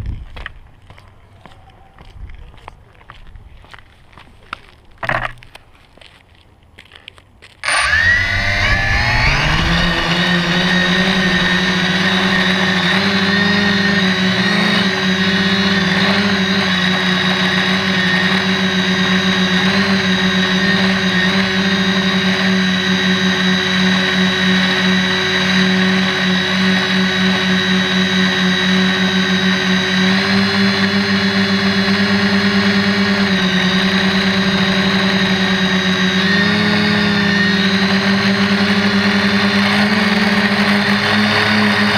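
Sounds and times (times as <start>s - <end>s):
quadcopter motors whining: 7.6s - 41.9s.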